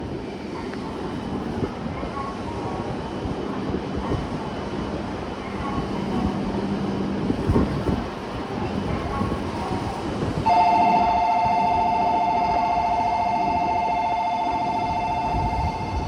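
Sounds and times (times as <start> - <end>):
crowd and train rumble: 0.0 - 16.0.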